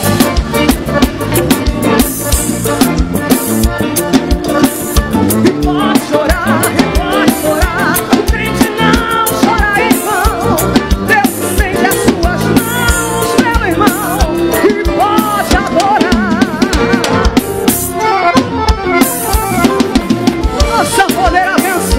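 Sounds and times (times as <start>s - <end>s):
drum kit beat: 0.0s - 21.9s
live band playing upbeat music: 0.0s - 21.9s.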